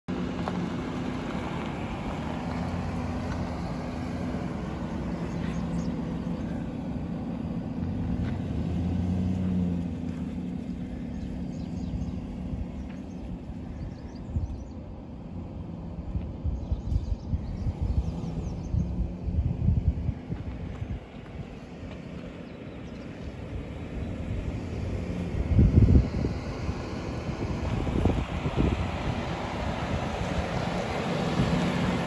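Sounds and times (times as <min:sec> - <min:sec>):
car engine running: 0:00.1 - 0:32.0.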